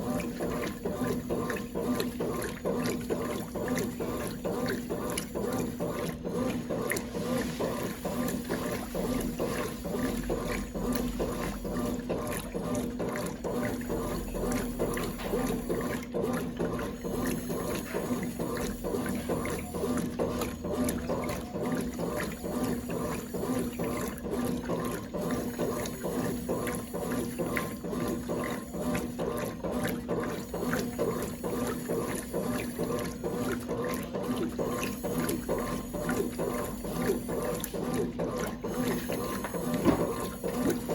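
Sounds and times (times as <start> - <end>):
washing machine motor hum: 0.0 - 40.9
water sloshing in washing machine: 0.0 - 40.9.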